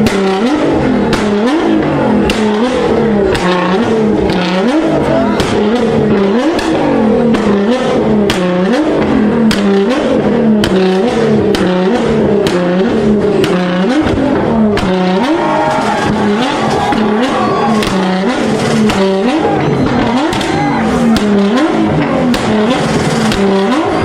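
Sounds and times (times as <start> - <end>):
car engine revving on limiter: 0.0 - 24.0
exhaust pops and bangs: 0.0 - 24.0.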